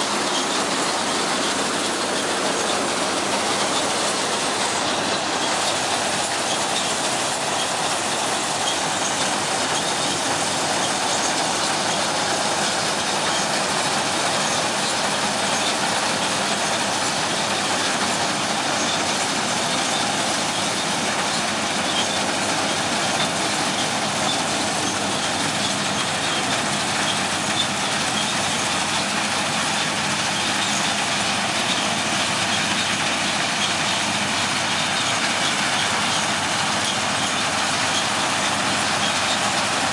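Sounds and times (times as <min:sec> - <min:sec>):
combine harvester clattering: 0:00.0 - 0:39.9.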